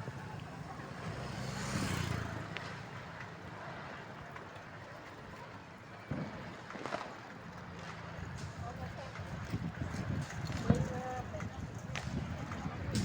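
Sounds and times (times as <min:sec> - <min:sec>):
festival crowd ambience: 0:00.0 - 0:13.0.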